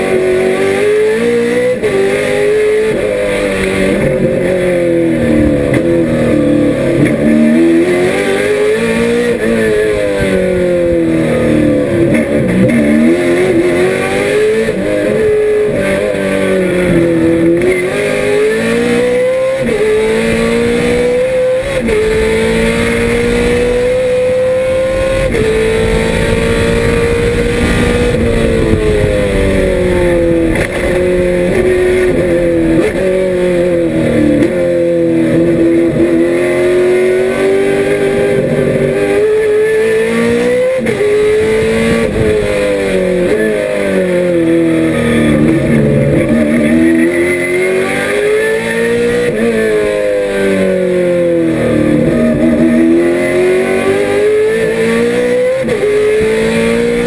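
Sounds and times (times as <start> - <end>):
racing car engine from inside cabin: 0.0 - 57.0.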